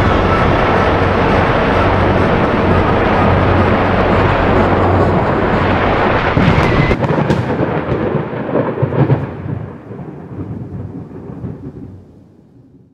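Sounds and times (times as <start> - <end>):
wind rumbling on microphone: 0.0 - 12.9.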